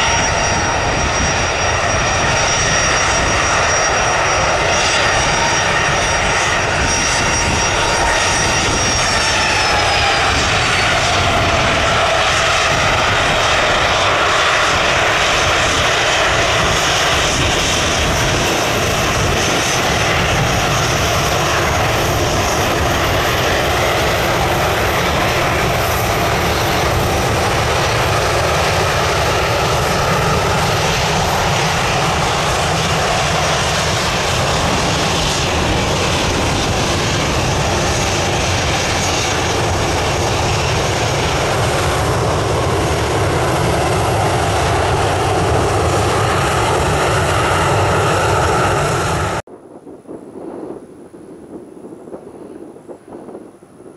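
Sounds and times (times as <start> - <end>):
jet engine roar: 0.0 - 53.9.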